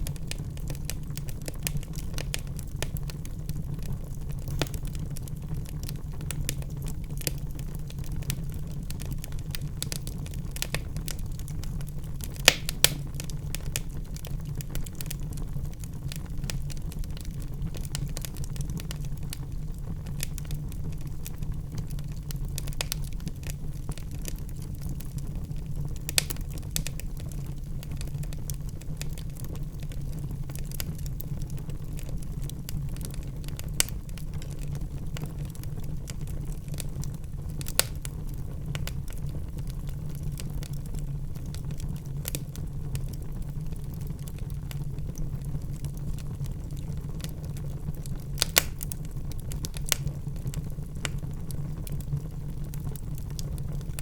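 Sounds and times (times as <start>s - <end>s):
loud fire pops: 0.0s - 21.1s, 21.7s - 32.0s, 36.4s - 42.6s, 45.4s - 54.0s
low rumble of flames: 0.0s - 54.0s
wood fire crackling: 0.0s - 54.0s.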